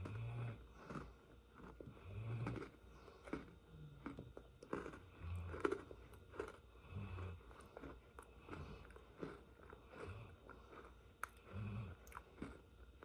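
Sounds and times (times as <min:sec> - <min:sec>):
person chewing crunchy cookie: 0:00.0 - 0:13.0.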